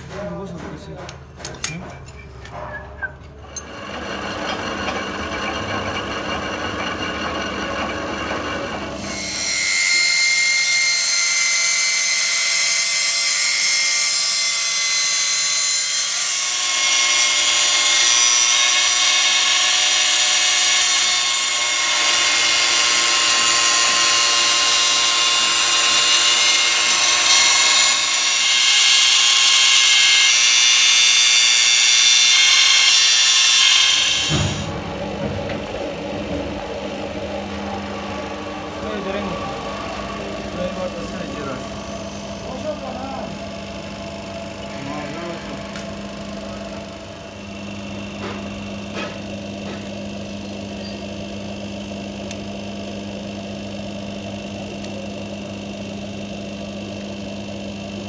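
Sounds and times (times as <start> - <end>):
angle grinder whine on metal: 1.7 - 58.0
lathe running: 3.0 - 58.0.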